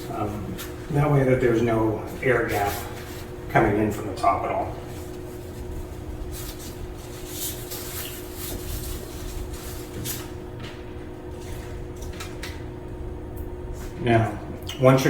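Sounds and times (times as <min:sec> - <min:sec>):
rustling and scraping handling noises: 0:00.0 - 0:12.5
steady low hum: 0:00.0 - 0:15.0.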